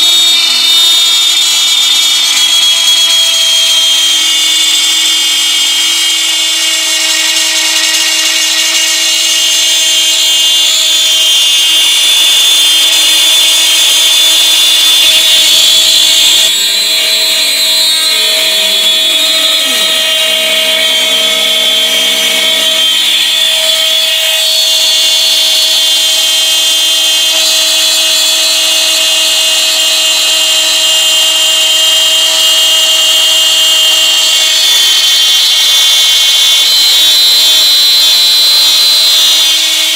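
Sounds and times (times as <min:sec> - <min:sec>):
router high-pitched whine: 0:00.0 - 0:39.9
lower gliding tones: 0:00.5 - 0:34.3.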